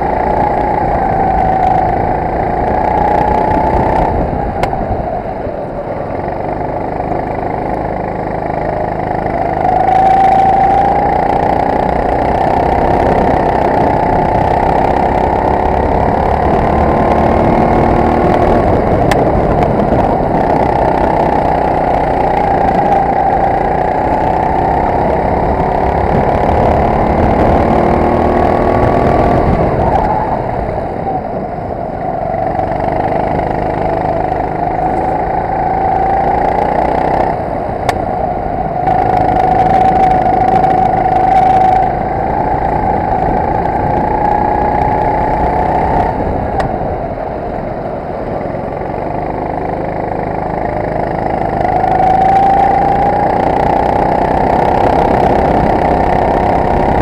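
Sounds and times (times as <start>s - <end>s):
kart engine at full throttle: 0.0s - 57.0s
wind noise: 0.0s - 57.0s.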